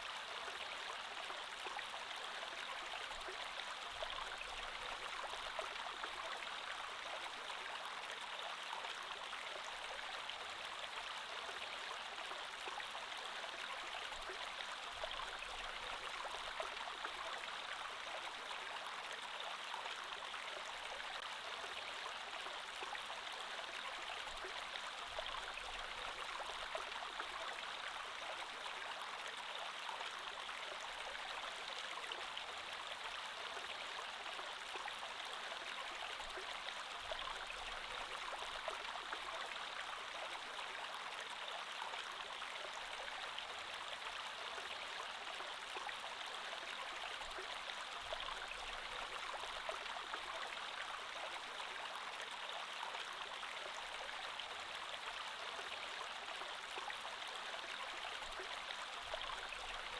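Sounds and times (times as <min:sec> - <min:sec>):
creek water babbling over stones: 0:00.0 - 0:59.9.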